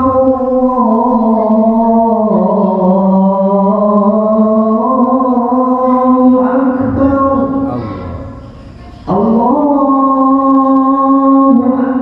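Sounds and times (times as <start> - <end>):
man chanting call to prayer: 0.0 - 8.4, 9.1 - 12.0.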